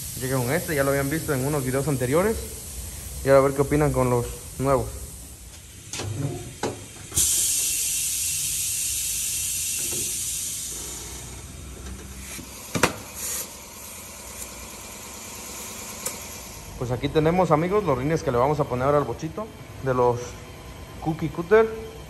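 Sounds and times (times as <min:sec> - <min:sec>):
compressed air hissing: 0:00.0 - 0:19.1.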